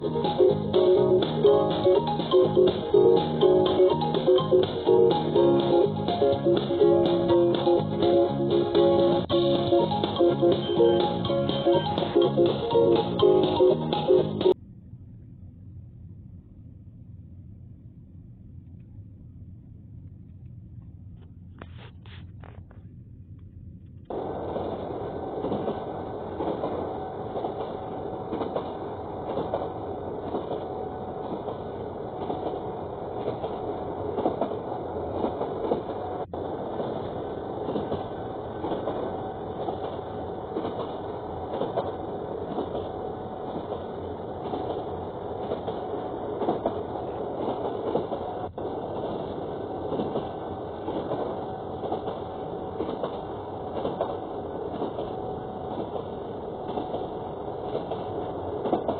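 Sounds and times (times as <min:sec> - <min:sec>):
train rumbling on track: 0:00.0 - 0:14.6, 0:21.6 - 0:58.9
wheels rattling and clicking on rails: 0:00.0 - 0:14.6, 0:23.9 - 0:58.9.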